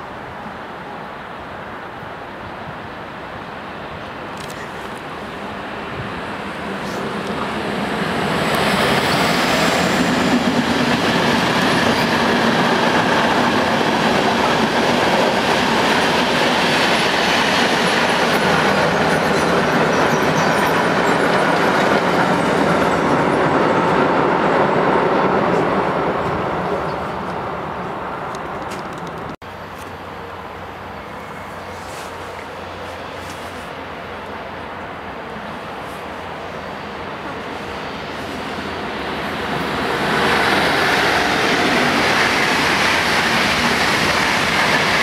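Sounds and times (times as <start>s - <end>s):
freight train wheels on track: 2.6s - 45.0s.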